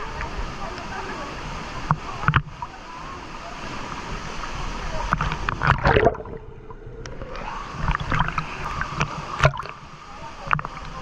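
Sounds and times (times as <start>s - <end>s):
rushing splashing water: 0.0s - 11.0s.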